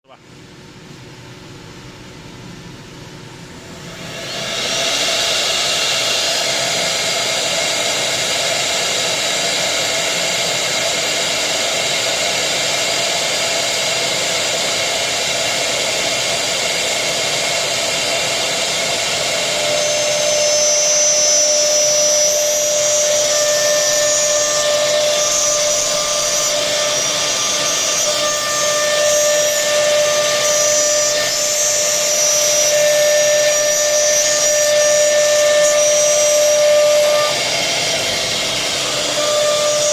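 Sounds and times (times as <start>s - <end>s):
router spindles high whine: 3.4s - 39.9s.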